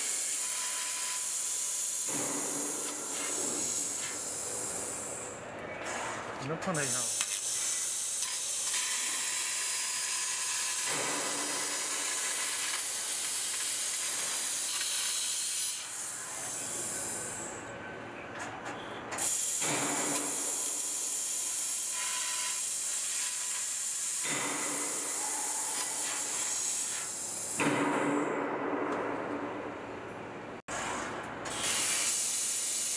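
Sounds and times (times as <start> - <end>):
laser cutter gas jet hiss: 0.0 - 5.2, 5.9 - 17.5, 19.2 - 27.8, 31.5 - 32.9.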